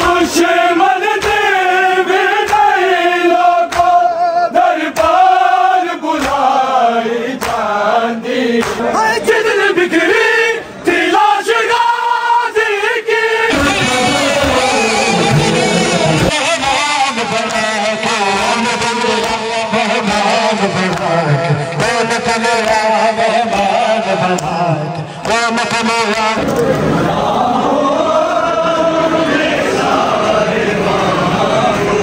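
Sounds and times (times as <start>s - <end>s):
men chanting: 0.0s - 32.0s.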